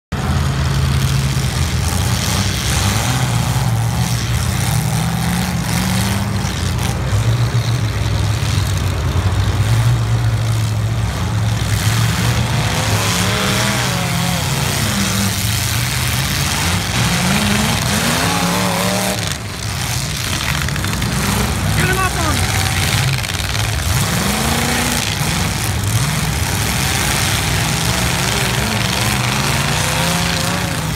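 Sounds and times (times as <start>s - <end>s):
car engines revving: 0.1s - 30.9s.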